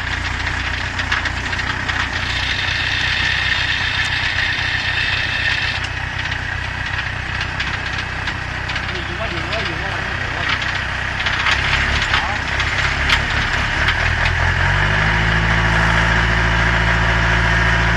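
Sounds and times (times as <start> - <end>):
dump carrier engine running: 0.0 - 17.9.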